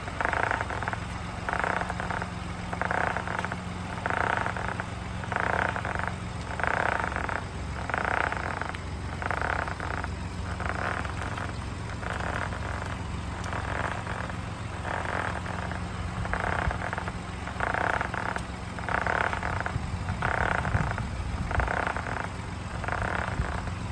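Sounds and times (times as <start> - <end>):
repeating tyre noise bursts: 0.0 - 23.9
steady low hum: 0.0 - 23.9.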